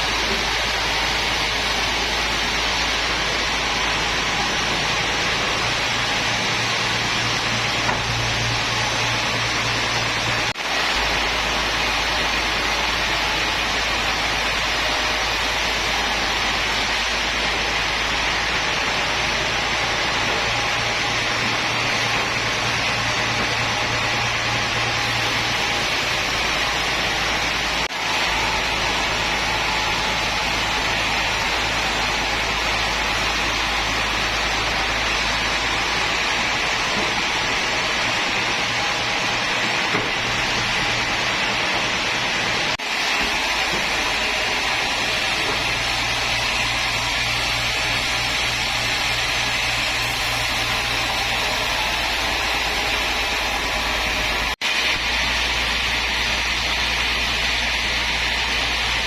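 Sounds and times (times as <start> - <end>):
woodworking machinery running: 0.0 - 59.0.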